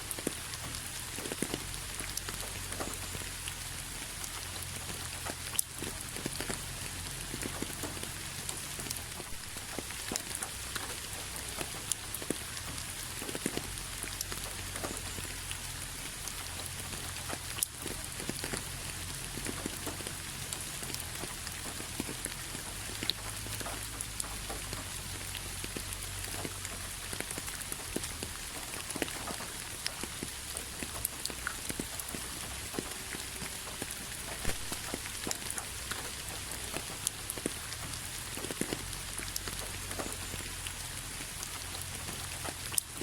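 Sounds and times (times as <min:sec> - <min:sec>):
raindrops ticking: 0:00.0 - 0:43.0
steady rain hiss: 0:00.0 - 0:43.0.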